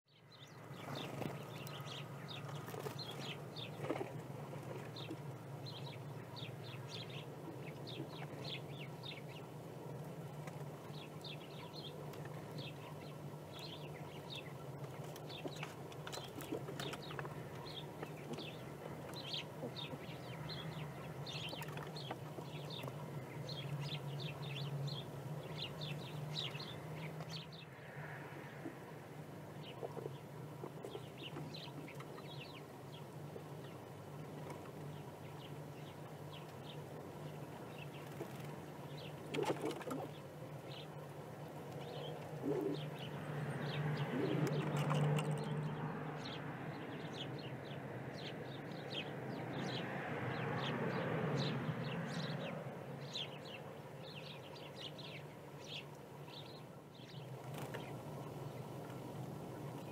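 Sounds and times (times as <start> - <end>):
songbirds chirping: 0.1 - 59.9.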